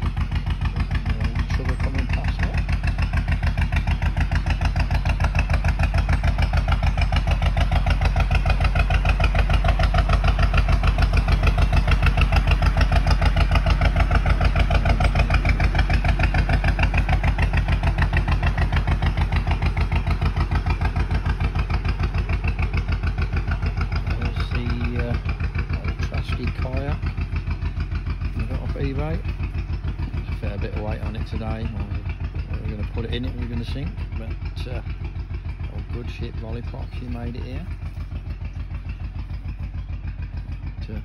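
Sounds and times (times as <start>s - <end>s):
boat diesel engine chugging: 0.0s - 41.0s.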